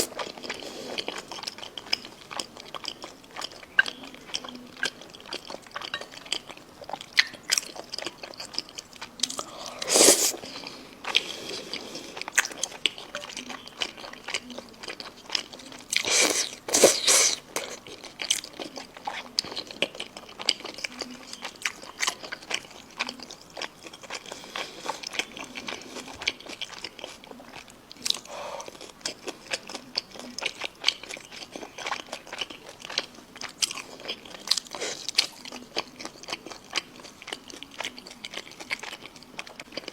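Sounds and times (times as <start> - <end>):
person chewing chicken: 0.0 - 39.9.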